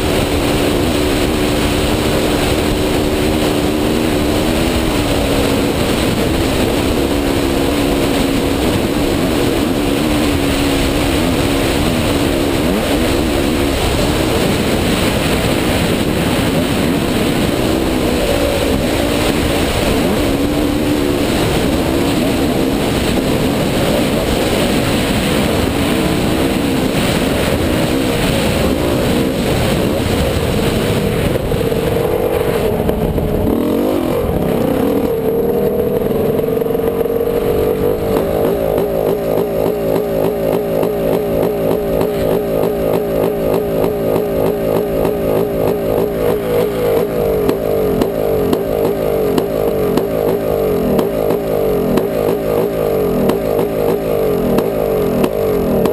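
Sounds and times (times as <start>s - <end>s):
dirt bike engine: 0.0s - 55.9s
wind on microphone: 0.0s - 55.9s.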